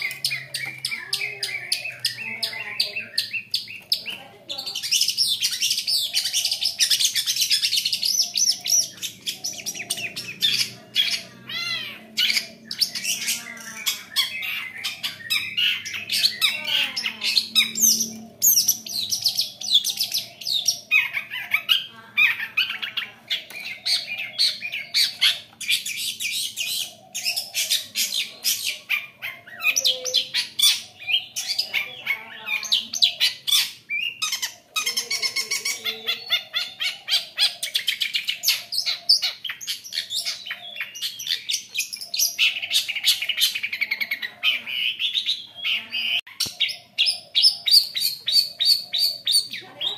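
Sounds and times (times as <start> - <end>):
shrike singing: 0.0 - 49.9.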